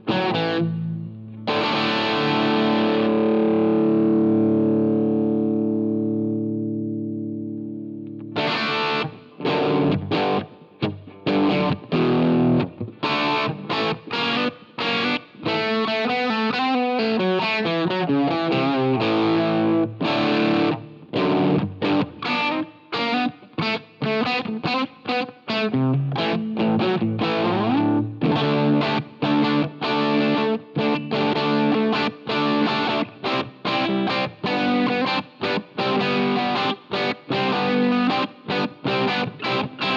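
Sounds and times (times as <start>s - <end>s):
electric guitar single notes: 0.0s - 39.9s
overdriven electric guitar chords: 0.0s - 39.9s.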